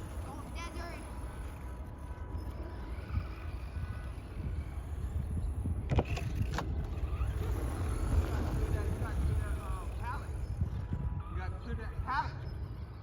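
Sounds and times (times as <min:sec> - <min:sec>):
electric rc cars driving on dirt: 0:00.0 - 0:13.0.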